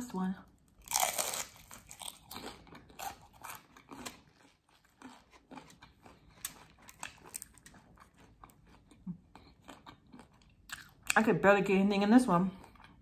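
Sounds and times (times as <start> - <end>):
chewing crispy taco shell: 0.8 - 11.2.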